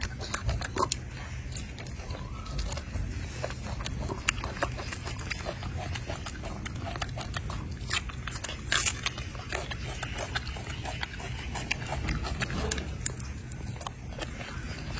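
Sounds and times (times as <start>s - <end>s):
monkey eating clicks and rustles: 0.0s - 14.9s.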